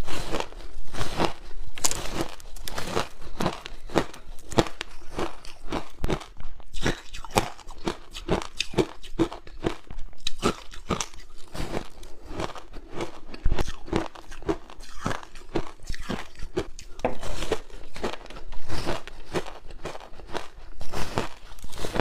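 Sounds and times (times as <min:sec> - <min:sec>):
frozen ice crunching when bitten: 0:00.0 - 0:22.0.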